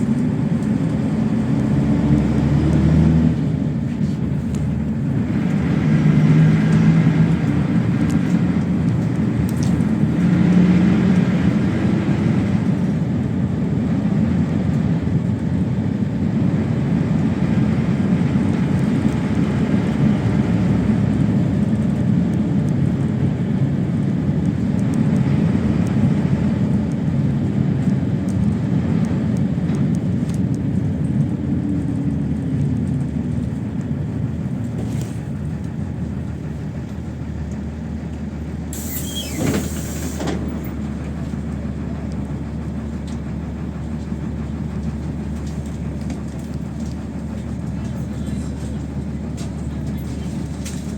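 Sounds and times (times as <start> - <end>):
bus engine revving: 0.0 - 50.9.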